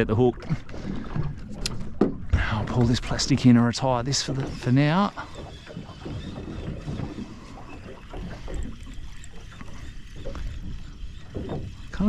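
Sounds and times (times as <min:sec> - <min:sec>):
water lapping around boat: 0:00.0 - 0:12.0.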